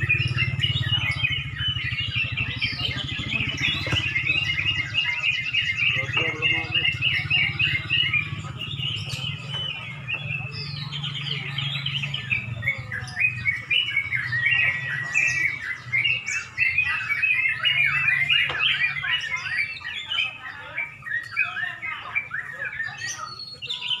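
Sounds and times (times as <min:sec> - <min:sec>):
bulbuls singing: 0:00.0 - 0:24.0.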